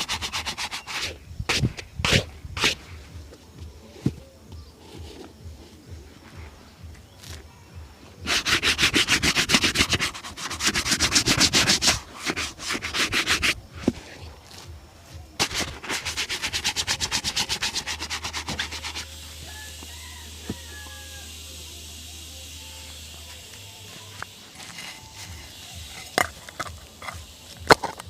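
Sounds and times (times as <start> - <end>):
shoe being brushed: 0.0 - 7.6, 8.2 - 21.2, 23.0 - 28.0.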